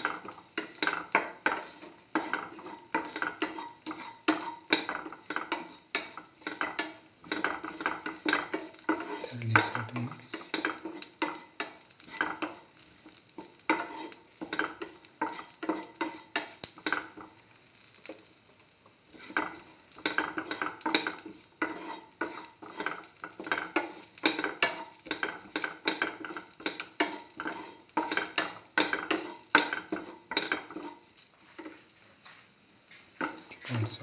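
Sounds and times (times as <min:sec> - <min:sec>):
spatula scraping a pan: 0:00.0 - 0:18.0, 0:19.1 - 0:31.9, 0:32.9 - 0:33.6
vegetables stir-frying in oil: 0:00.0 - 0:34.0.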